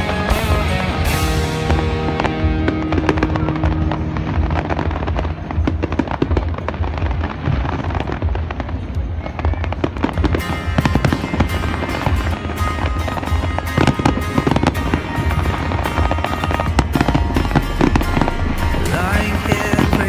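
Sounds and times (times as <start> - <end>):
fireworks bursting and crackling: 0.0 - 20.0
show music over loudspeakers: 0.0 - 20.0.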